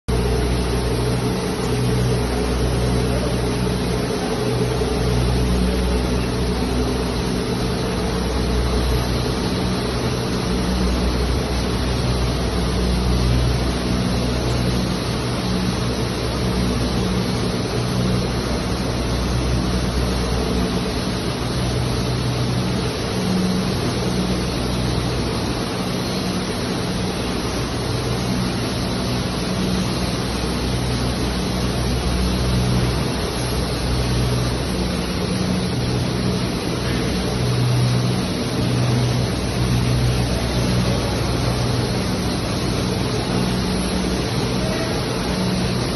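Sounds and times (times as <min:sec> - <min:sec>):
machine hum: 0:00.1 - 0:45.9
motor and fan rush: 0:00.1 - 0:45.9.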